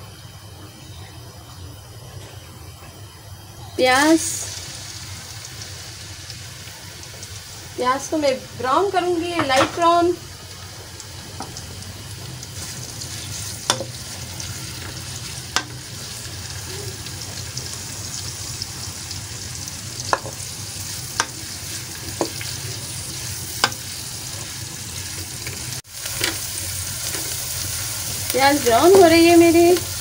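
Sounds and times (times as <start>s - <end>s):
onions sizzling in hot oil: 0.1s - 30.0s.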